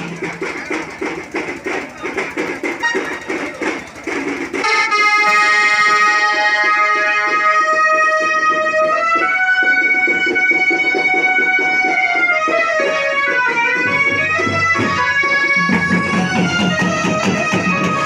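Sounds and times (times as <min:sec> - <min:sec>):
drum beats: 0:00.0 - 0:18.0
loud reed instrument melody: 0:00.0 - 0:18.0.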